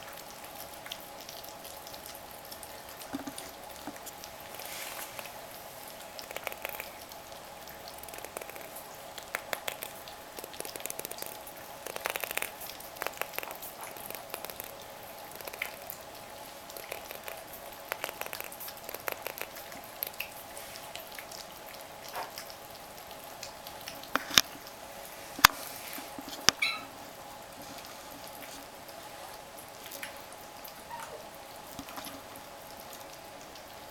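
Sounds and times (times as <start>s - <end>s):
kittens chewing and lapping: 0.0s - 30.8s, 31.6s - 33.6s.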